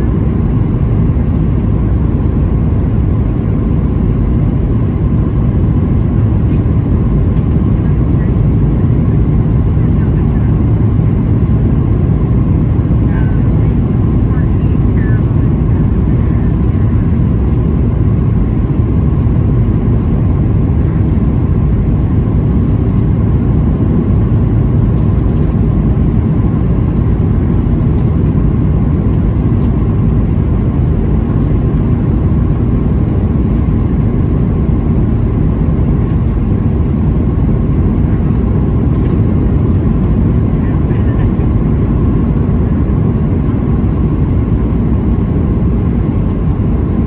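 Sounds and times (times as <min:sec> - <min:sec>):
aircraft cabin engine rumble: 0:00.0 - 0:47.0
faint steady whine: 0:00.0 - 0:47.0.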